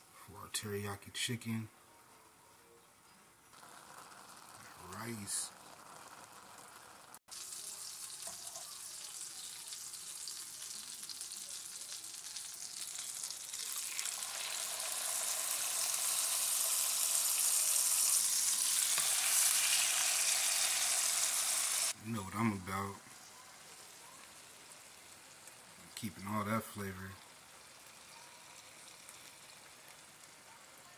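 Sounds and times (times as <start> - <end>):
chicken sizzling in hot oil: 3.5 - 30.9.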